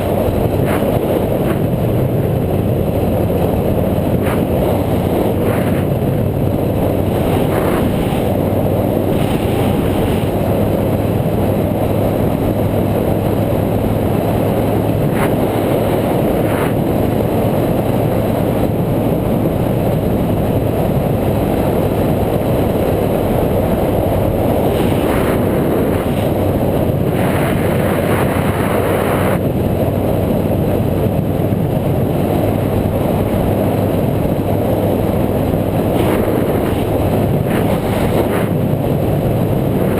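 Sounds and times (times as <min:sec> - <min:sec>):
road rumble: 0:00.0 - 0:39.9
wind rushing on microphone: 0:00.0 - 0:39.9.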